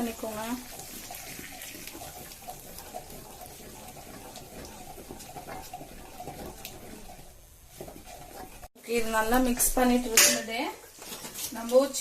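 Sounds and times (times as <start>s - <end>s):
sauce sizzling in a pan: 0.0s - 10.1s.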